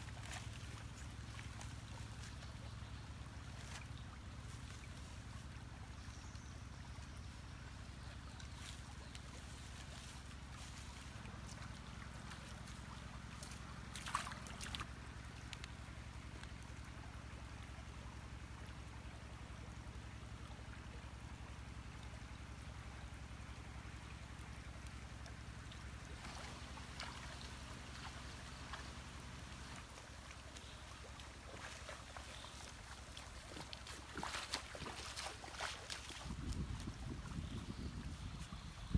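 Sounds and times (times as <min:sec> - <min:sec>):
steady low hum: 0:00.0 - 0:38.9
stream trickling: 0:00.0 - 0:38.9.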